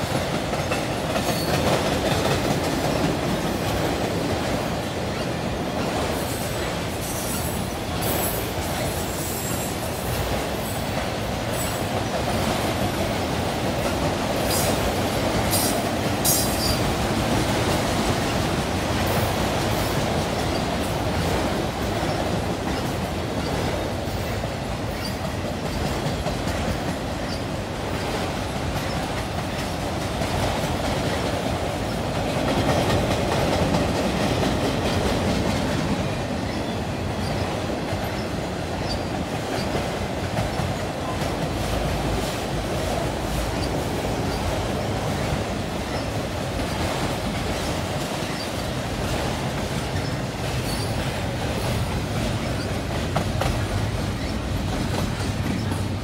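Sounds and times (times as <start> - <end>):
freight train wheels clacking: 0.0 - 56.0.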